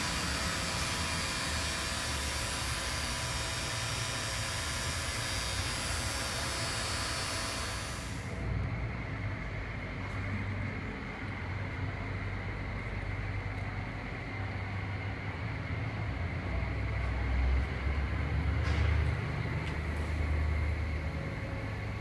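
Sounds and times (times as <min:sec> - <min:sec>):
machinery hiss and hum: 0:00.0 - 0:22.0.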